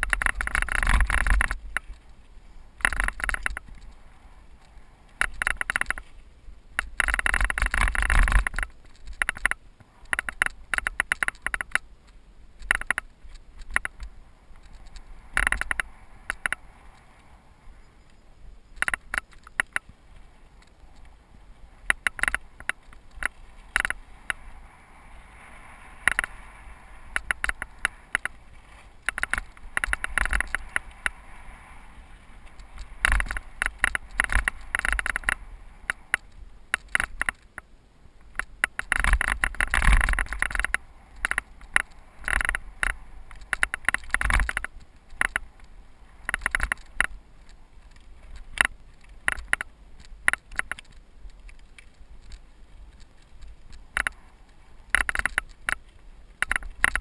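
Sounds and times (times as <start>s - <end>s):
bike rattling over bumps: 0.0s - 16.7s, 18.4s - 21.0s, 21.8s - 24.6s, 25.9s - 57.0s.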